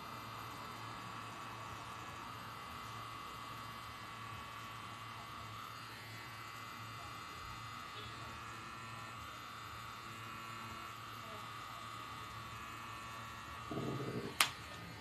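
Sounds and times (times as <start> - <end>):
tattoo machine buzzing: 0.0 - 15.0.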